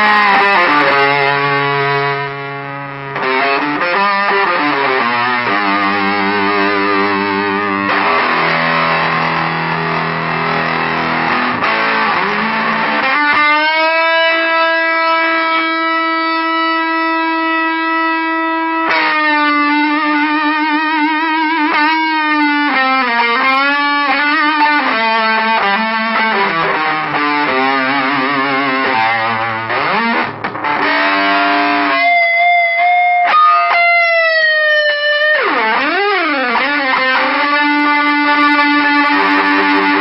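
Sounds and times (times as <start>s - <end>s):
distorted electric guitar: 0.0s - 40.0s.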